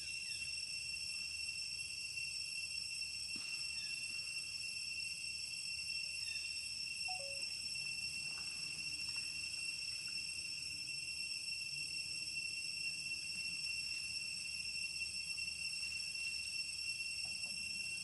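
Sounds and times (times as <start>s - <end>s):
shrill insect chorus: 0.0s - 18.0s.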